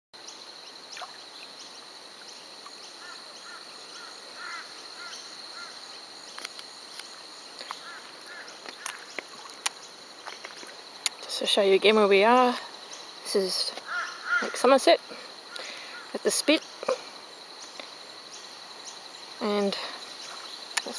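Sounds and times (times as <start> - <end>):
insects trilling: 0.2 - 20.9.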